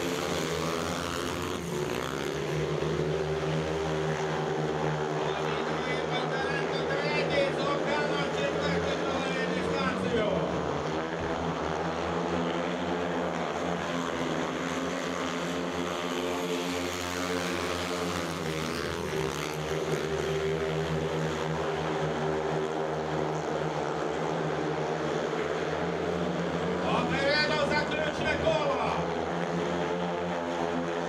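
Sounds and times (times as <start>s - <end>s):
motorcycles racing at high revs: 0.0s - 31.0s.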